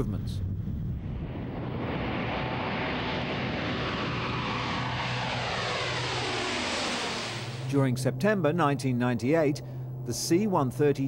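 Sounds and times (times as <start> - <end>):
turboprop aircraft taking off: 0.0 - 11.0.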